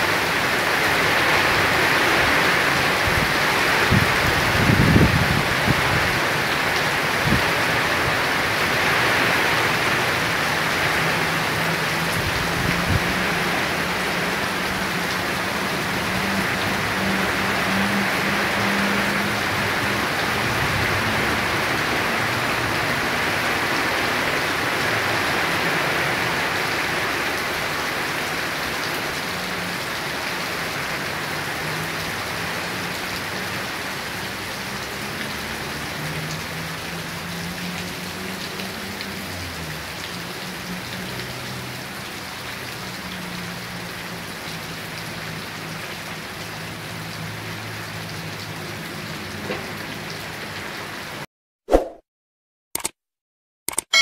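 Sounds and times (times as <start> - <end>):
heavy rain pouring: 0.0 - 51.3.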